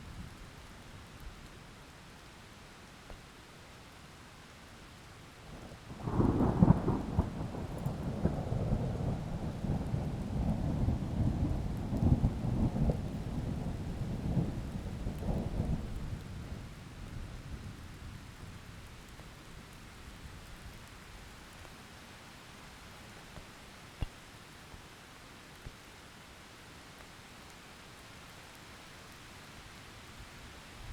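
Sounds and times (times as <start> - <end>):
heavy rain: 4.2 - 30.9.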